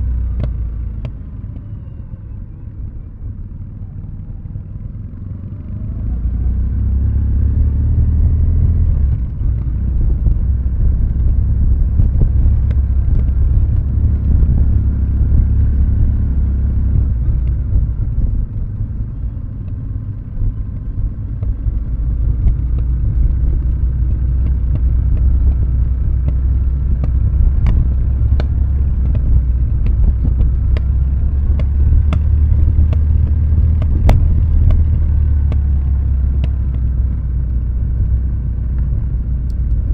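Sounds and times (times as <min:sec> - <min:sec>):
motorcycle engine burbling: 0:00.0 - 0:39.9.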